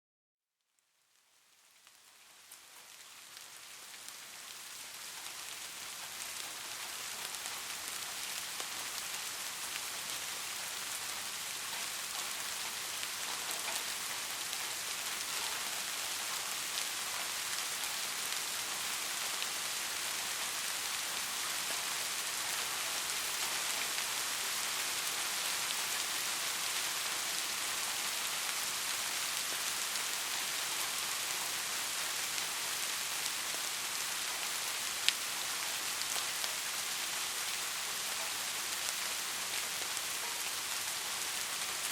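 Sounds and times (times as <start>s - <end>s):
steady rain falling: 0.8s - 41.9s.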